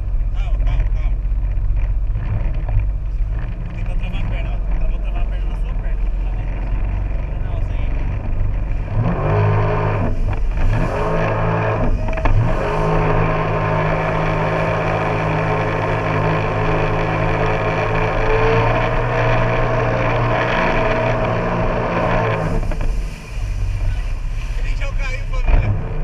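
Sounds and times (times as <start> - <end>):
engine revving: 0.0 - 26.0
engine running steadily: 0.0 - 26.0.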